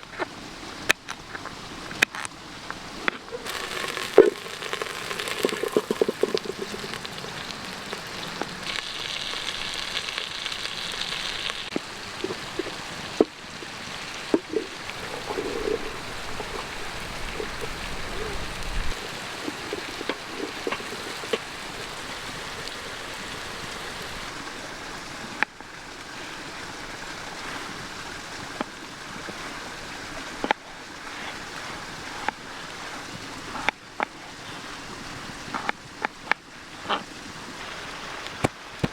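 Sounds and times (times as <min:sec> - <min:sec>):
small creek rushing: 0:00.0 - 0:38.9.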